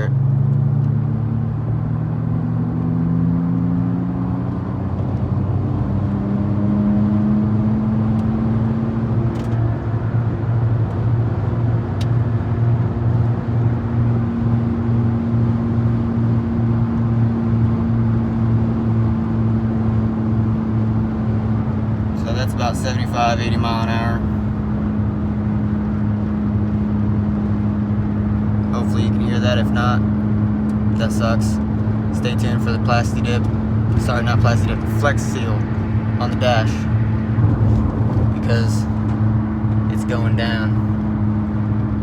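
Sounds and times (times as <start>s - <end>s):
road noise: 0.0s - 42.0s
wheel bearing droning roar: 0.0s - 42.0s.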